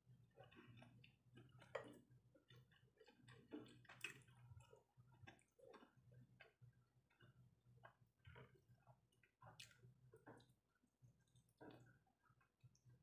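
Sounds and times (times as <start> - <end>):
chewing: 0.3 - 13.0.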